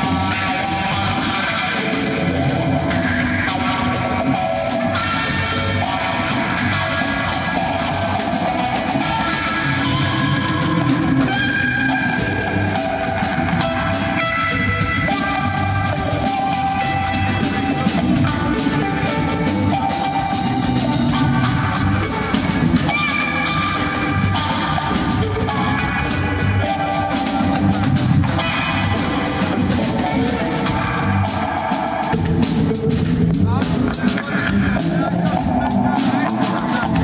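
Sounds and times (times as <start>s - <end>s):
drum kit playing: 0.0s - 37.0s
electric guitar holding notes: 0.0s - 37.0s.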